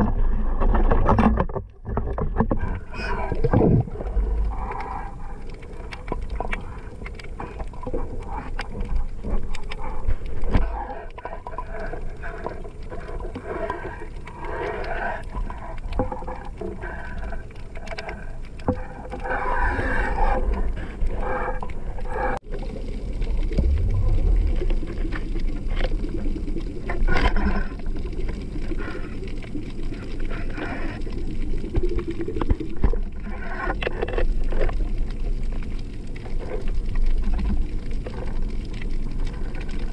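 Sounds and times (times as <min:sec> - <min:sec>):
water rushing underwater: 0:02.2 - 0:39.9.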